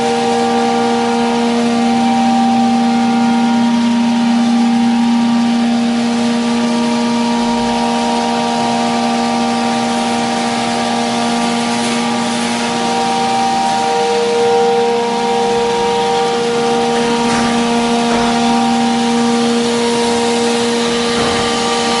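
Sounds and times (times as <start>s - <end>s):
cnc router spindle whine: 0.0s - 22.0s.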